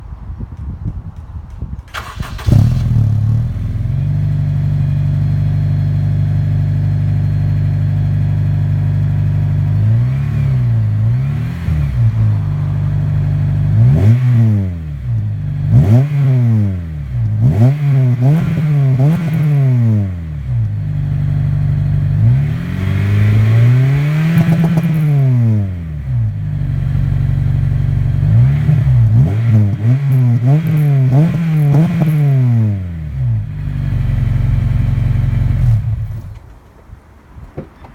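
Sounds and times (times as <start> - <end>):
car engine idling and revving: 1.9 - 36.5.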